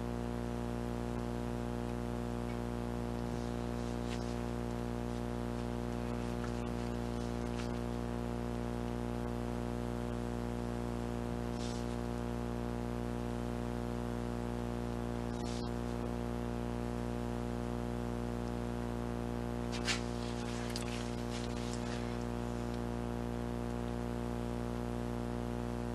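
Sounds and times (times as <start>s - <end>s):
low hum with overtones: 0.0s - 25.9s.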